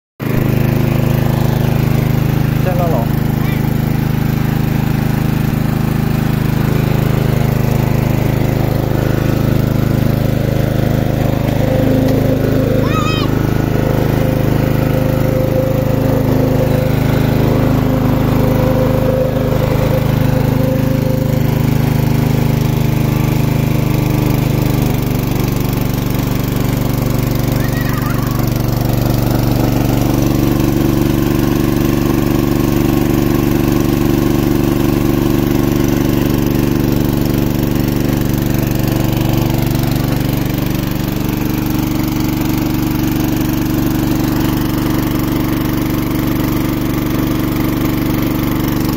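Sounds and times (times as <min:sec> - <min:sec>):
petrol engine running: 0:00.2 - 0:48.9.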